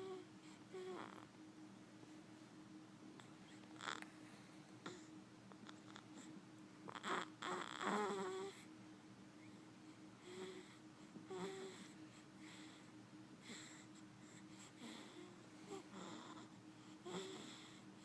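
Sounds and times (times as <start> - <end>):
baby snoring faintly: 0.0 - 1.3, 3.2 - 8.8, 9.4 - 18.0.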